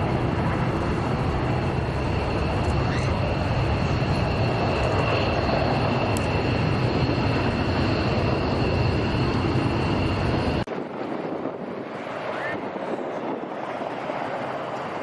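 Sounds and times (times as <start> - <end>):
jet engines roaring and whining: 0.0 - 15.0.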